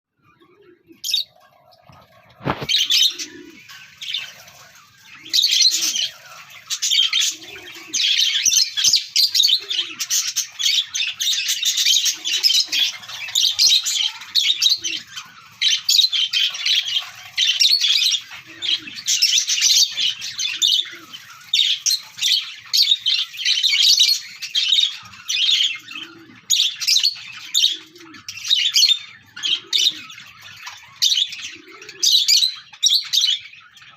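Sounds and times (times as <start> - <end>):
lovebirds chirping and squawking: 0.1 - 33.9.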